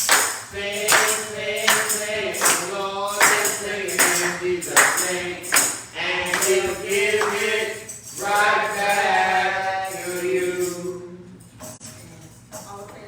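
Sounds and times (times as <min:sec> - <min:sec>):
singing in church: 0:00.0 - 0:11.7
tambourine jingling: 0:00.0 - 0:13.0.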